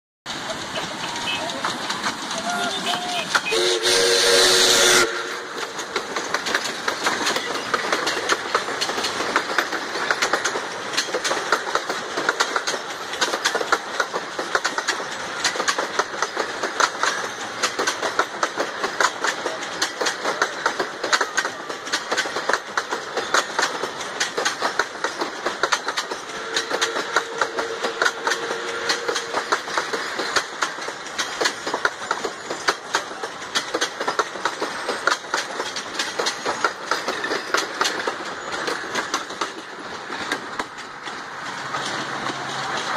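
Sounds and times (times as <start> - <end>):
train wheels clicking over rails: 0.2 - 42.9.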